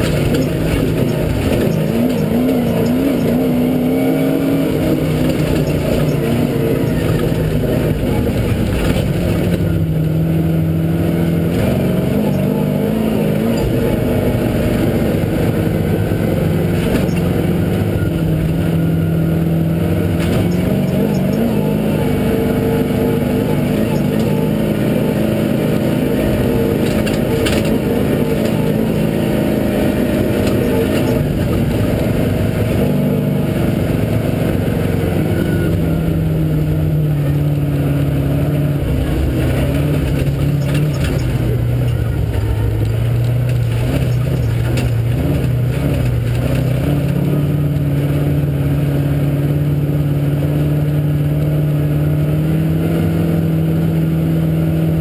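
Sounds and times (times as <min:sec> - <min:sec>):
off-road vehicle engine running: 0:00.0 - 0:55.0.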